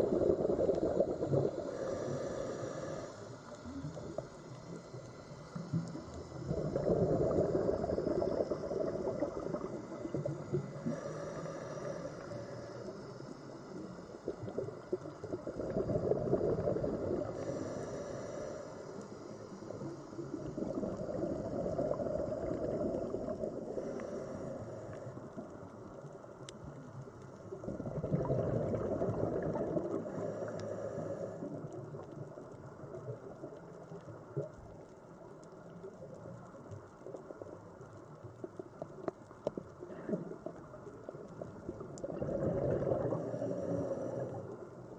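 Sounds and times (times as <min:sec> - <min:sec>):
faint hiss: 0:00.0 - 0:27.8, 0:28.7 - 0:44.9
underwater bubbling and gurgling: 0:00.0 - 0:44.9.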